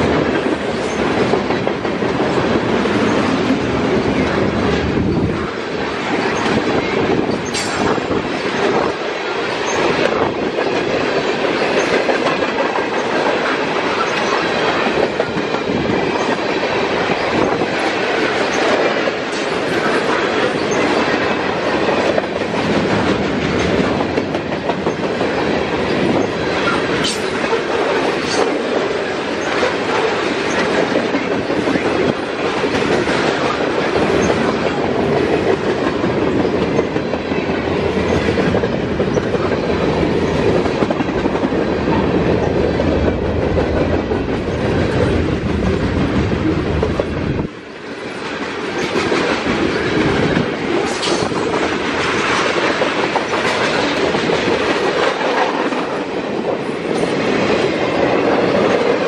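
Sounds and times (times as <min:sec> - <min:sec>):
freight train cars rolling past: 0:00.0 - 0:59.0
wheels clacking on rails: 0:00.0 - 0:59.0.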